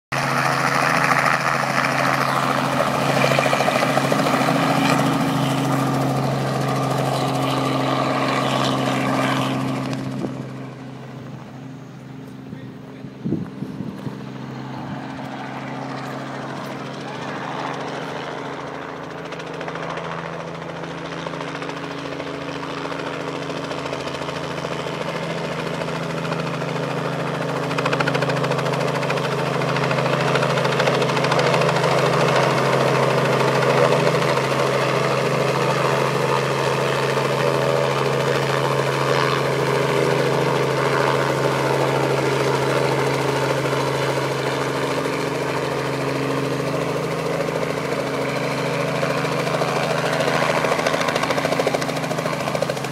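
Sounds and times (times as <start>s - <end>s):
engine droning: 0.1s - 52.9s.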